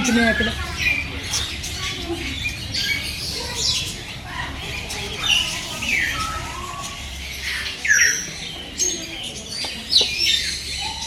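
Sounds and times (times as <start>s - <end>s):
parrots squawking and chirping: 0.0s - 11.0s.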